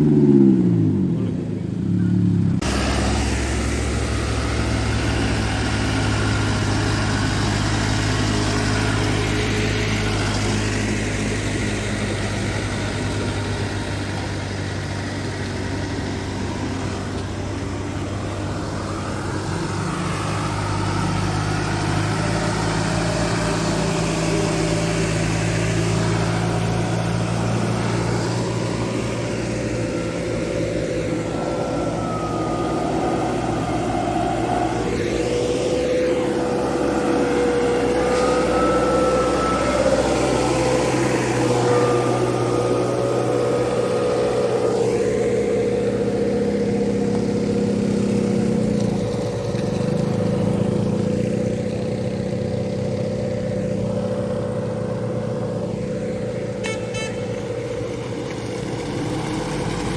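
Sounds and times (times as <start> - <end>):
heavy vehicle engine idling: 0.0 - 59.9.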